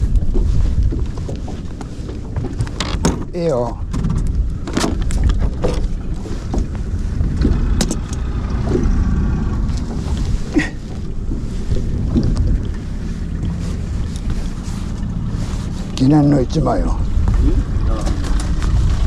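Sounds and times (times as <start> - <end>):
boat engine low rumble: 0.0 - 19.0
wind on microphone: 0.0 - 19.0.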